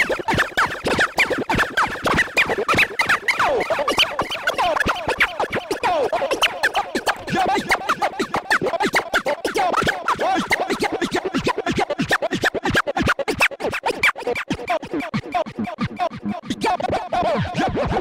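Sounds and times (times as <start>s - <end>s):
turntable scratching: 0.0s - 18.0s.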